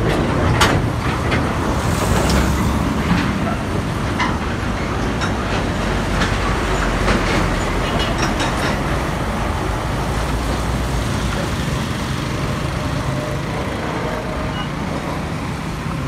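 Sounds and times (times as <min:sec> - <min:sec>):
cars and motorbikes passing: 0:00.0 - 0:16.0
truck engine rumble: 0:00.0 - 0:16.0
truck rattling clatter: 0:00.0 - 0:16.0.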